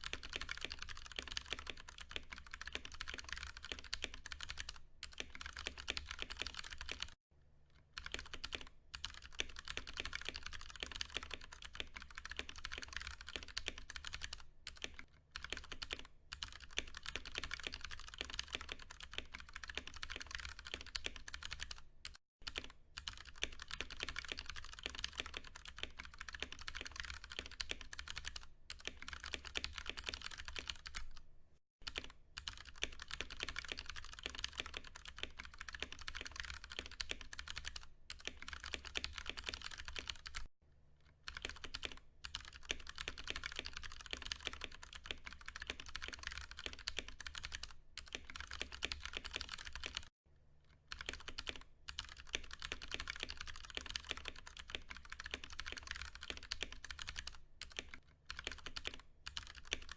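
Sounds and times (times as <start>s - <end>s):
fast mechanical keyboard typing: 0.0s - 7.2s, 8.0s - 31.2s, 31.8s - 40.5s, 41.3s - 50.1s, 50.9s - 59.9s.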